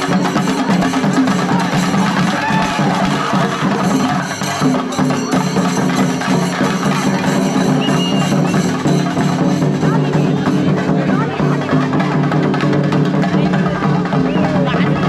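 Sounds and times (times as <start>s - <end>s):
cymbals: 0.0s - 15.0s
drums beaten in fast rhythm: 0.0s - 15.0s.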